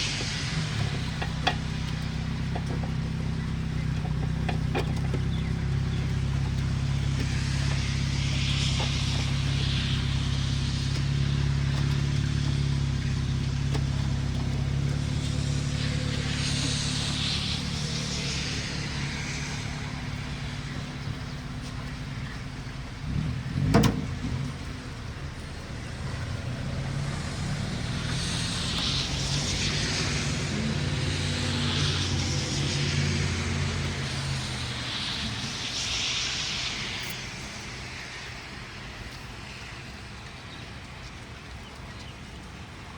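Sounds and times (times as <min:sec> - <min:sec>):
low engine hum: 0:00.0 - 0:42.9
tyre hiss of passing vehicles: 0:00.0 - 0:42.9.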